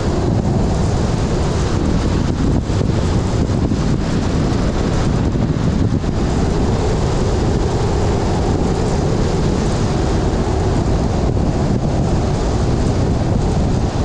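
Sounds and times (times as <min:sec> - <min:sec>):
car tyres and engine rumble: 0:00.0 - 0:14.0
wind buffeting microphone: 0:00.0 - 0:14.0.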